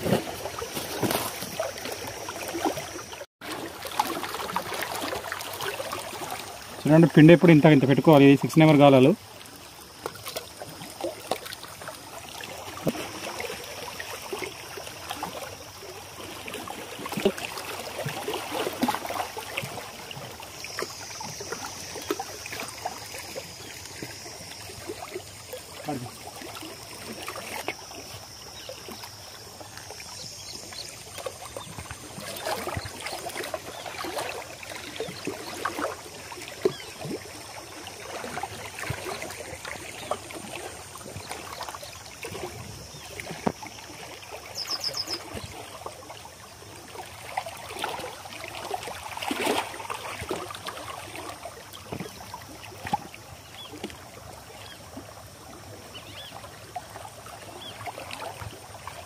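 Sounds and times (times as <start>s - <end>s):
waves lapping against rocks: 0.0s - 59.0s.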